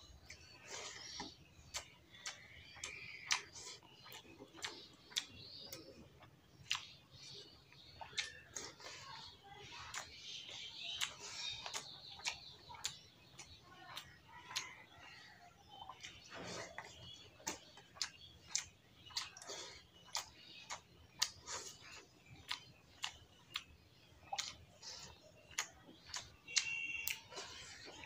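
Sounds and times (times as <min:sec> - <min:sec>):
wet mouth clicks while chewing: 0:00.2 - 0:15.2, 0:15.8 - 0:28.0.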